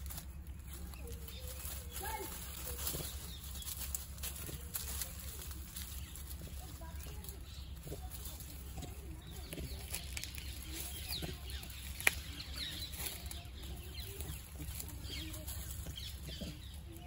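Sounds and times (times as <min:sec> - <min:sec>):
birds chirping falling notes: 0:00.0 - 0:17.0.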